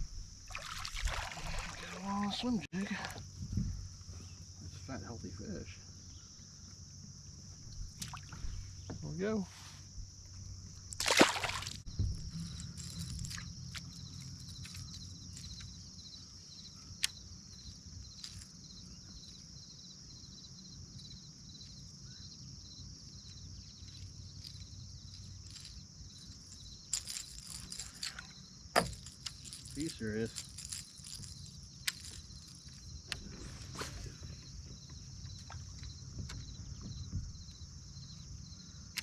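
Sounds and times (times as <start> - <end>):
insect chorus trilling: 0.0 - 39.0.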